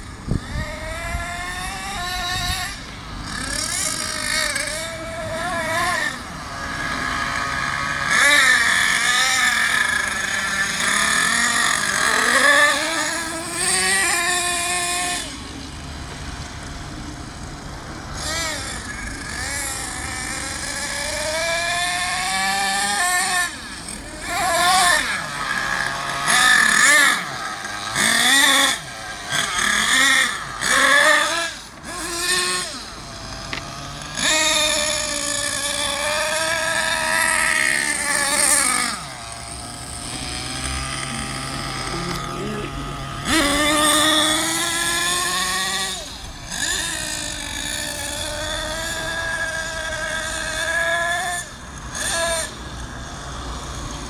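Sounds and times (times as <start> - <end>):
nitro engine revving: 0.0 - 54.0.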